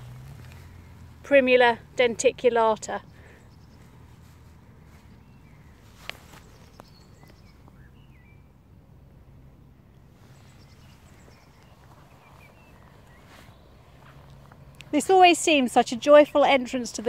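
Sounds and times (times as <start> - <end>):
distant bird chirps: 0.0 - 17.0
low steady rumble: 0.0 - 17.0.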